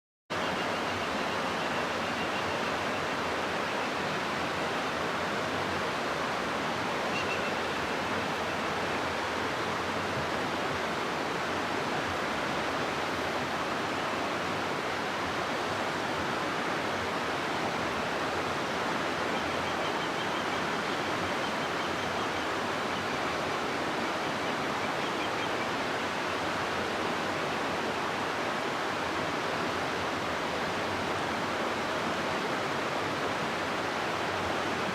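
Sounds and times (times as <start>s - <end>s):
river water rushing over rocks: 0.4s - 34.9s.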